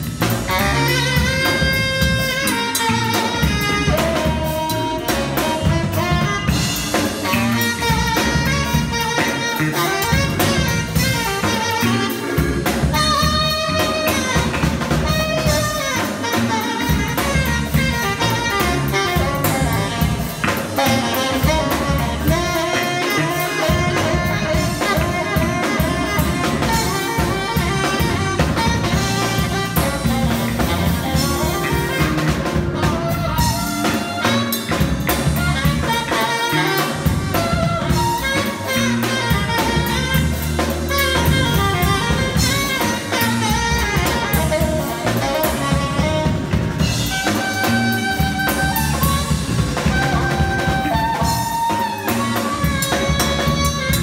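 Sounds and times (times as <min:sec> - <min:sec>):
live jazz band playing: 0:00.0 - 0:54.0
tenor saxophone: 0:00.0 - 0:54.0.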